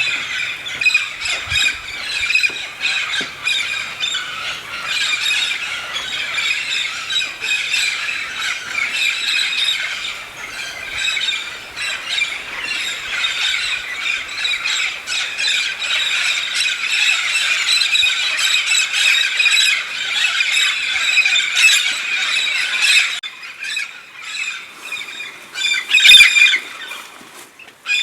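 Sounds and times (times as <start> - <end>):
flock of parrots squawking: 0.0 - 26.9.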